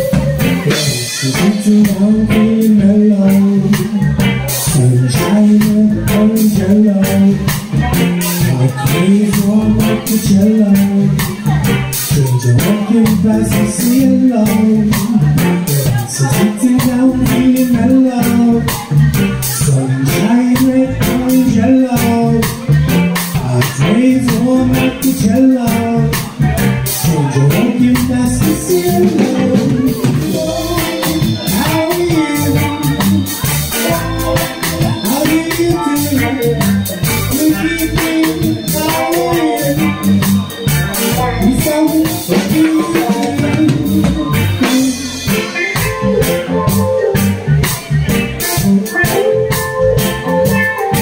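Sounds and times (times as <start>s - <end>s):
drum kit with cymbals: 0.0s - 51.0s
electric guitar: 0.0s - 51.0s
stage keyboard: 0.0s - 51.0s.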